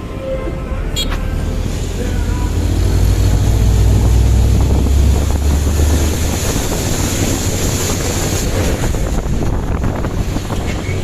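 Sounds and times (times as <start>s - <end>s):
truck engine and road rumble: 0.0s - 11.0s
wind noise on microphone: 0.0s - 11.0s.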